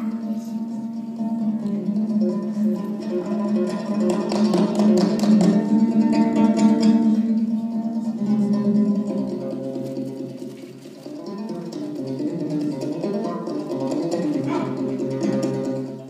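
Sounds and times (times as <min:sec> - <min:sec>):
strummed lute melody: 0:00.0 - 0:16.0.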